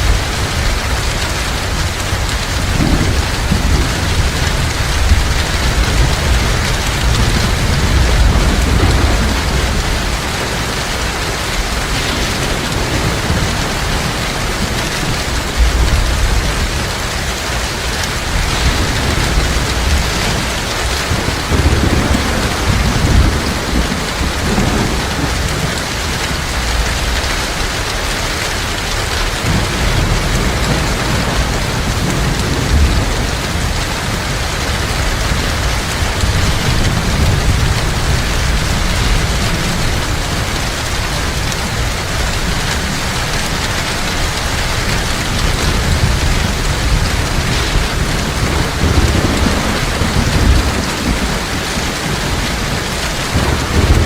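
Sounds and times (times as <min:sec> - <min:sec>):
heavy rain pouring: 0:00.0 - 0:54.0
low rolling thunder: 0:00.0 - 0:54.0.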